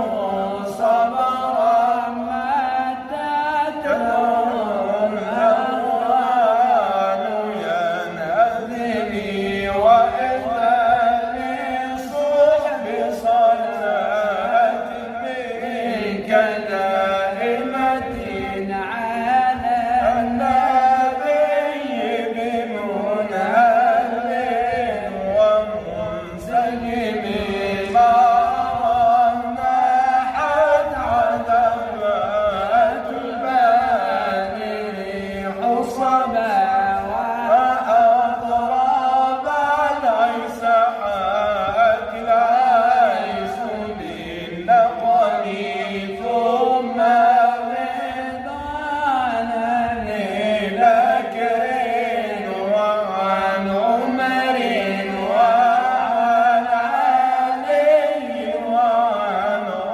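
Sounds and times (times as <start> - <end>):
man chanting melodically: 0.0 - 59.9.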